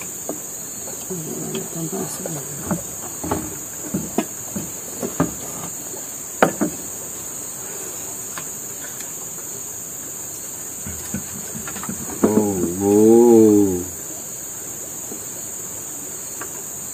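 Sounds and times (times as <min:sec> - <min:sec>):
high-pitched insect chorus: 0:00.0 - 0:16.9.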